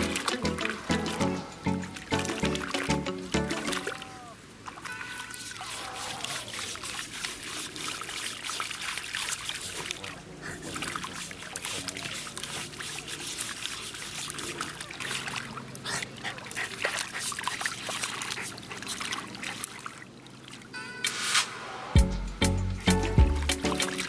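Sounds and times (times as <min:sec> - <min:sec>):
dog splashing in shallow water: 0:00.0 - 0:20.7.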